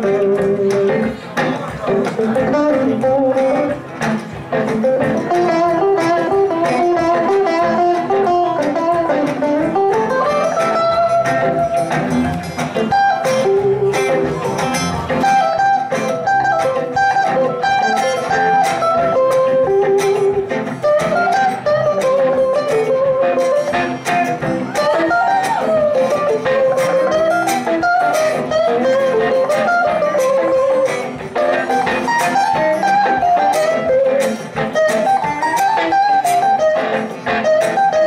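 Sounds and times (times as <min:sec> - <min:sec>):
guitars playing together: 0:00.0 - 0:38.0.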